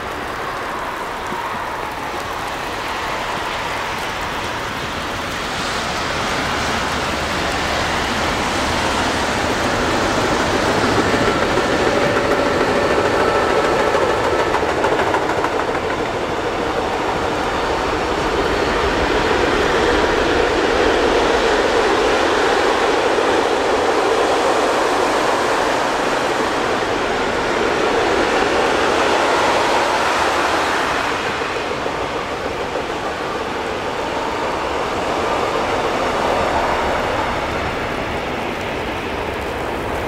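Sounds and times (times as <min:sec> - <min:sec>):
electric locomotive passing: 0:00.0 - 0:40.0.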